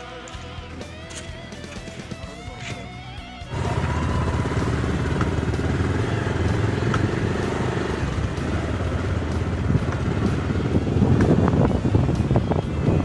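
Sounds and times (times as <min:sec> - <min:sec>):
motorcycle engine rumbling: 0:00.6 - 0:13.0.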